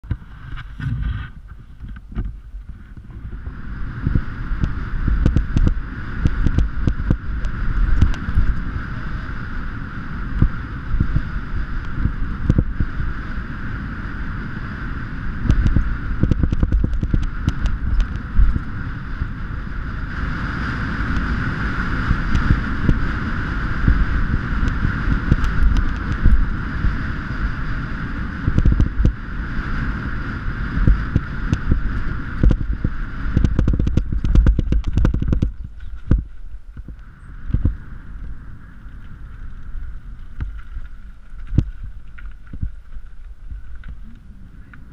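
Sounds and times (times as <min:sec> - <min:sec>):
bike rattling over bumps: 0:00.0 - 0:44.9
bike tyres rumbling on dirt: 0:00.0 - 0:44.9
wind on microphone: 0:00.0 - 0:44.9.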